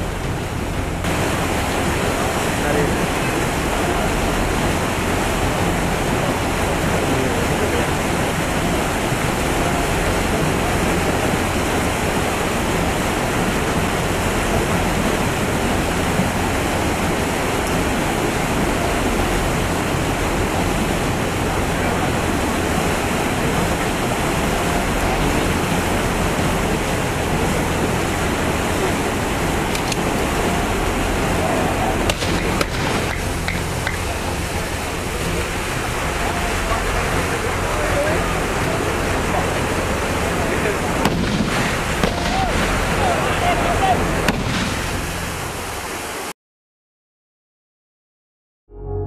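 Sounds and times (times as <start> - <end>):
water rushing through sluice gate: 0.0 - 46.3.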